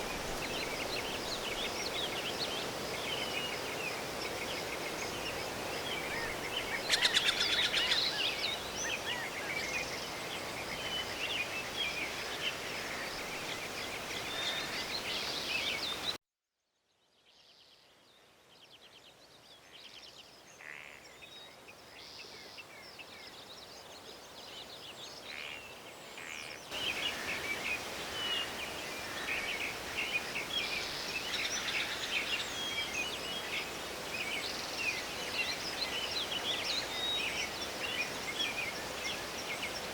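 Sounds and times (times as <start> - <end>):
background hiss: 0.0 - 16.2, 17.5 - 39.9
small birds chirping: 0.0 - 16.2, 19.8 - 39.9.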